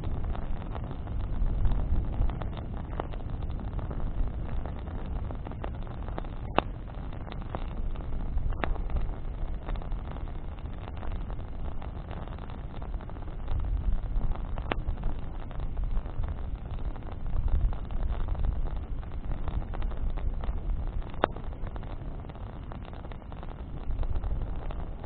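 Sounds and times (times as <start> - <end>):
campfire crackling: 0.0 - 25.0
sharp fire pops: 0.0 - 25.0.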